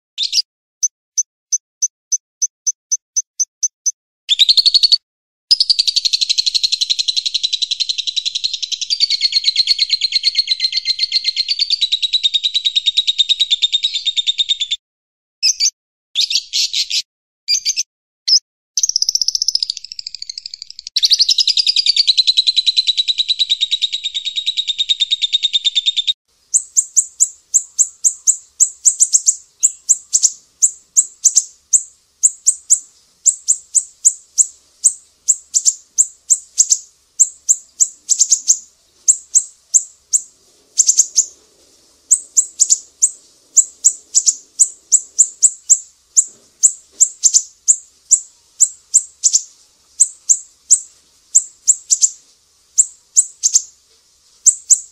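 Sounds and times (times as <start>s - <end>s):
songbird trilling and chirping: 0.2s - 0.5s, 1.1s - 14.8s, 15.4s - 41.4s, 42.0s - 52.2s, 52.8s - 53.7s, 54.4s - 54.9s.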